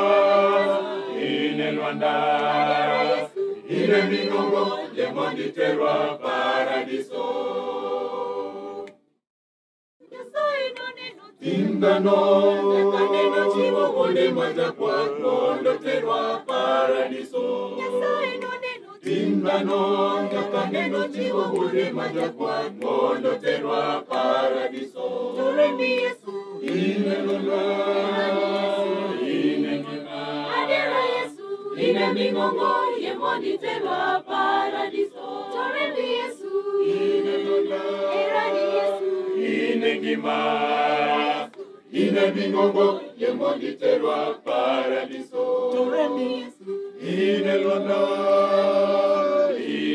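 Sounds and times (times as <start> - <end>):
choir singing a hymn: 0.0 - 8.9, 10.0 - 49.9.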